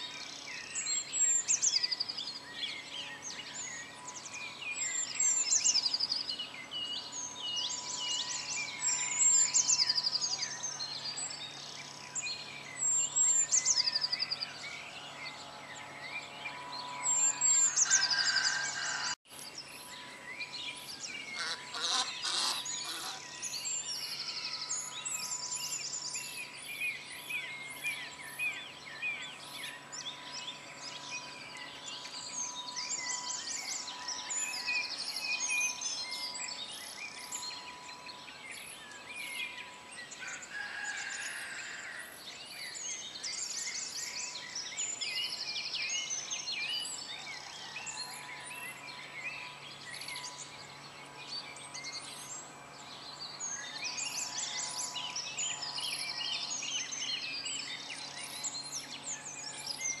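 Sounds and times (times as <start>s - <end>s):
birds chirping and trilling: 0.0s - 60.0s.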